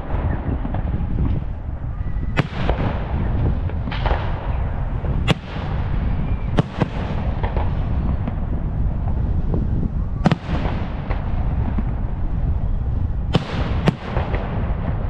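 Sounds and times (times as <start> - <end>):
continuous low rumble: 0.0 - 15.0.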